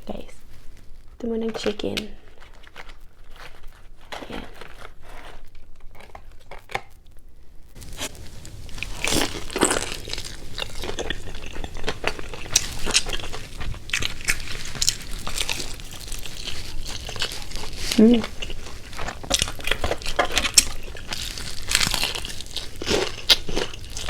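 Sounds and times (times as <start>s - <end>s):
crunchy chewing of fried chicken: 2.2s - 7.0s, 7.8s - 24.0s.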